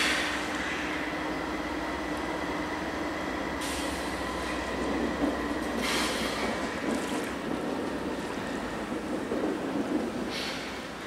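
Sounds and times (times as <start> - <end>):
diesel locomotives running: 0.0 - 11.0.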